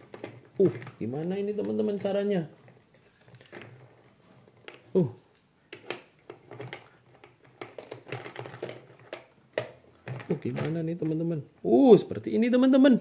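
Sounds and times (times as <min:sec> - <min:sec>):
plastic toy pieces clattering: 0:00.0 - 0:05.0, 0:05.7 - 0:11.2.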